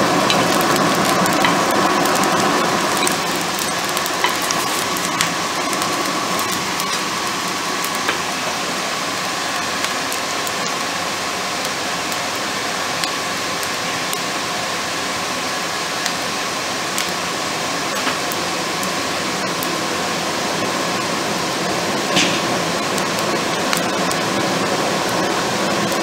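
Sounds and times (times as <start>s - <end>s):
fire crackles and pops: 0.0s - 26.0s
fire rushing: 0.0s - 26.0s.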